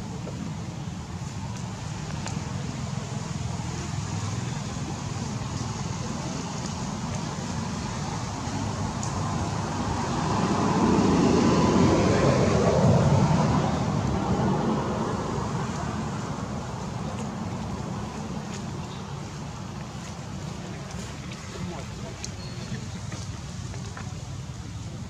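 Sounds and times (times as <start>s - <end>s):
outdoor rumble and hiss: 0.0s - 25.0s.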